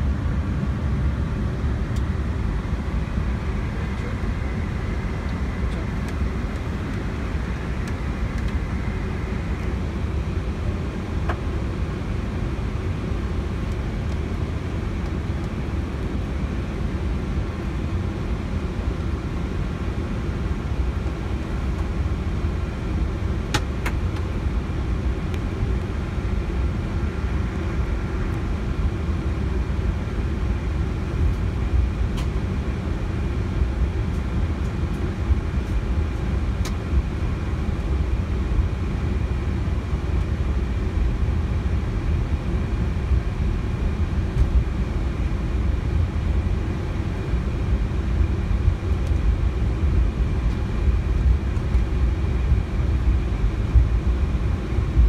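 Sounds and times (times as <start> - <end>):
aircraft engines idling rumble: 0.0 - 55.0.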